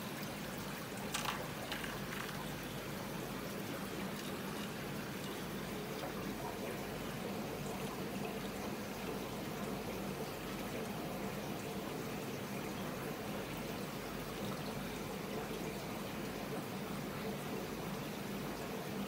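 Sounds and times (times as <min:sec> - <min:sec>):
aquarium filter water pouring: 0:00.0 - 0:19.0.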